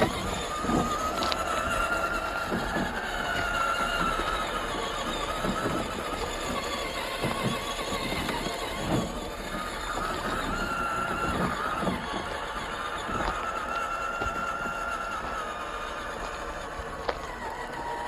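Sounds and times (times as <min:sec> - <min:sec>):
electric motor whining: 0:00.0 - 0:18.0
tyres crunching over rough ground: 0:00.0 - 0:18.0.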